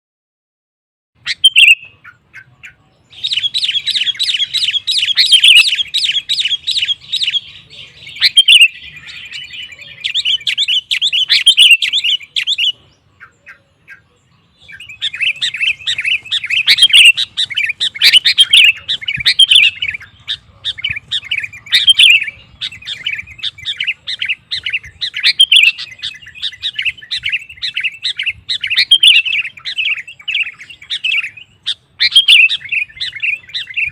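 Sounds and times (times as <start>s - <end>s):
bulbul singing chattering phrases: 1.2s - 33.9s.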